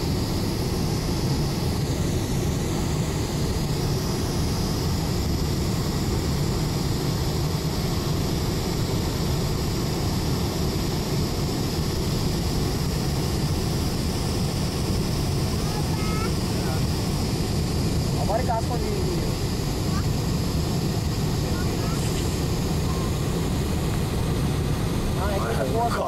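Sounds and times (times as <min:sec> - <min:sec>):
aircraft low rumble: 0:00.0 - 0:26.0
faint high whine: 0:00.0 - 0:26.0.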